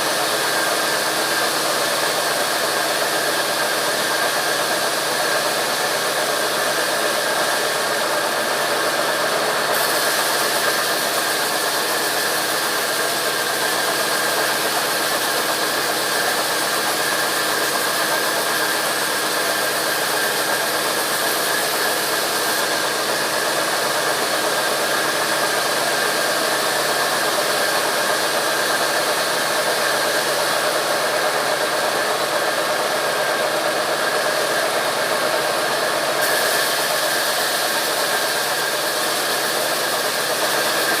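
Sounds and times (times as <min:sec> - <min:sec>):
sawmill machinery running: 0:00.0 - 0:41.0.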